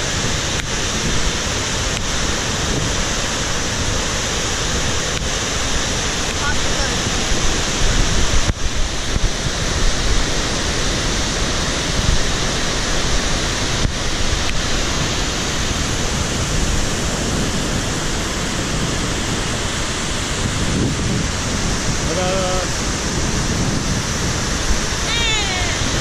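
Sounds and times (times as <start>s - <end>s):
waterfall roaring: 0.0s - 26.0s
wind rumble on microphone: 0.0s - 26.0s.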